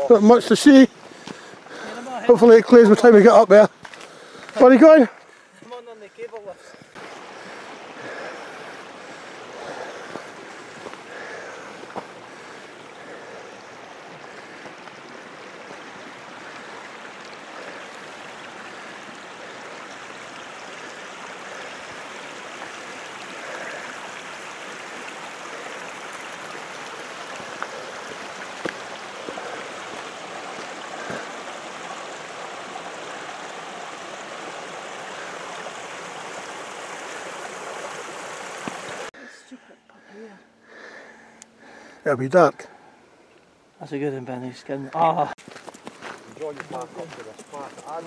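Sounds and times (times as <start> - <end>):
running water rushing: 0.0 - 39.2, 43.8 - 48.0.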